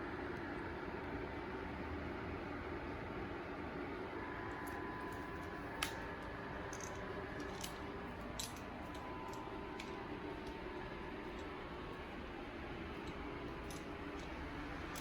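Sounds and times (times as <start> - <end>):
small cooling fan whine: 0.0 - 15.0.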